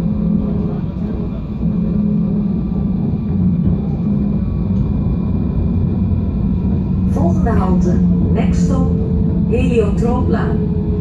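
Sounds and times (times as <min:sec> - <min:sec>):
tram cabin rumble: 0:00.0 - 0:11.0.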